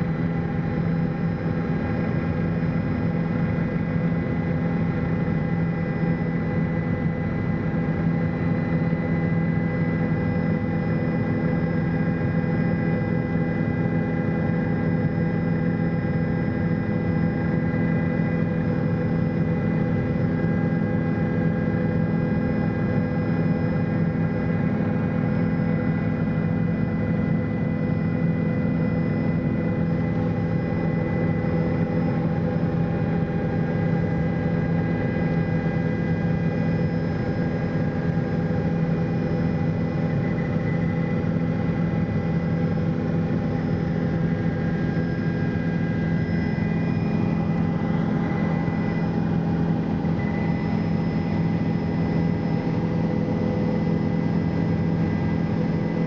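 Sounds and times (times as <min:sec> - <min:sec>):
helicopter engine and rotors drone: 0:00.0 - 0:56.0
high whine: 0:09.6 - 0:56.0.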